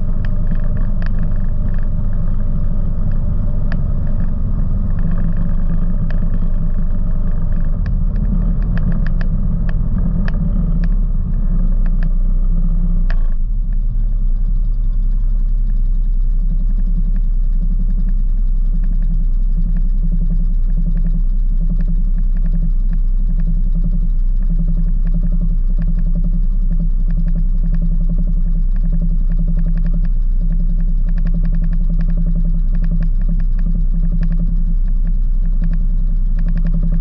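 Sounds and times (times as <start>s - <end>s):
atv engine running: 0.0s - 37.0s
gravel clicks: 0.0s - 37.0s.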